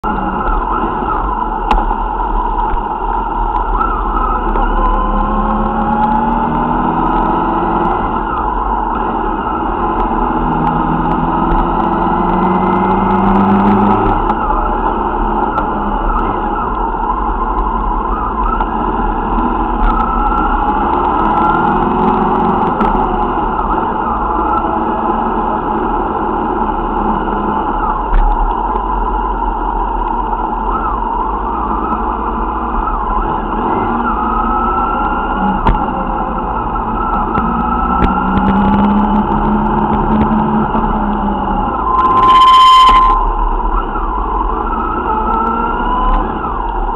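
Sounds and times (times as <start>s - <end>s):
motorcycle engines running: 0.0s - 46.9s
wind and road noise: 0.0s - 46.9s.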